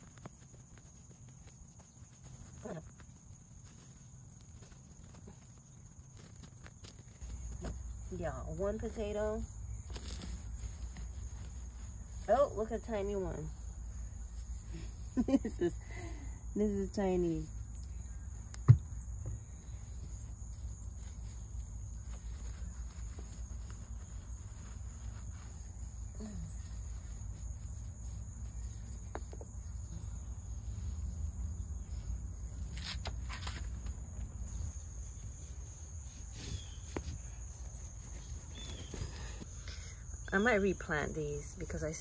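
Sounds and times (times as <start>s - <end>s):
high insect trill: 0.0s - 42.0s.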